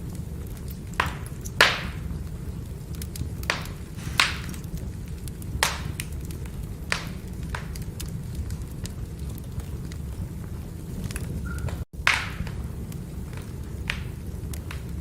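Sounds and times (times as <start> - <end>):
fire rumbling: 0.0 - 15.0
firewood crackling: 0.0 - 15.0
sharp pops of burning wood: 0.0 - 15.0.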